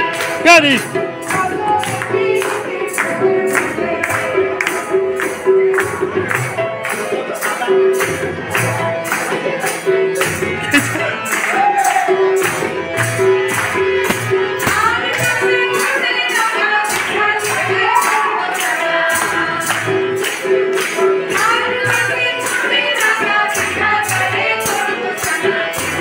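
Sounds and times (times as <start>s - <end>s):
audience clapping along: 0.0s - 26.0s
song with singing over a beat: 0.0s - 26.0s.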